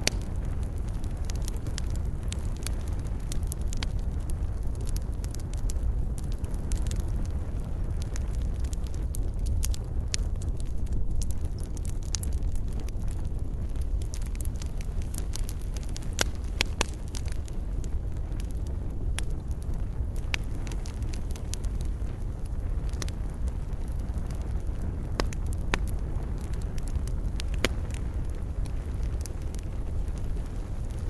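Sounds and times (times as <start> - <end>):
campfire crackling and popping: 0.0 - 31.0
low rumble of fire: 0.0 - 31.0.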